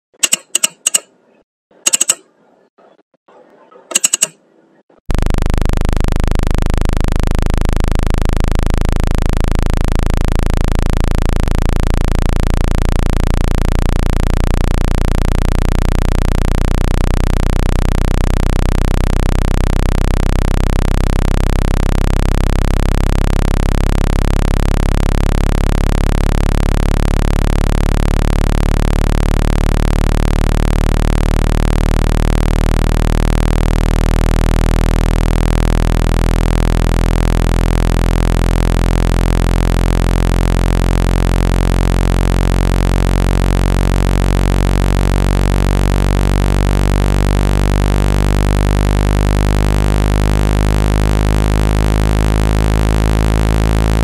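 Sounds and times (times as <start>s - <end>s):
low bass hum tone: 5.1s - 54.0s.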